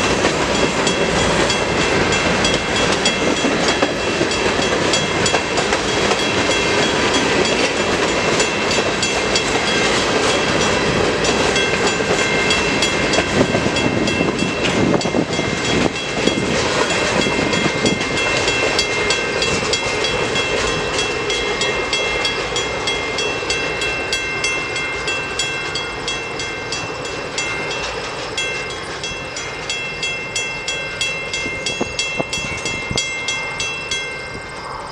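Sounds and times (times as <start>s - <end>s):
wheels clicking over rail joints: 0.0s - 34.8s
freight train rolling past: 0.0s - 34.9s
high-pitched wheel ringing: 0.0s - 34.9s.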